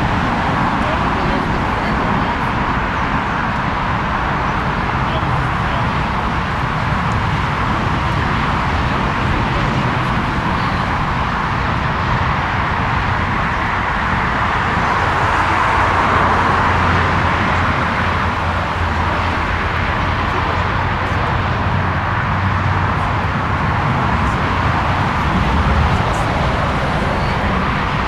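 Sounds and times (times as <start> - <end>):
jet engines rushing: 0.0 - 28.0.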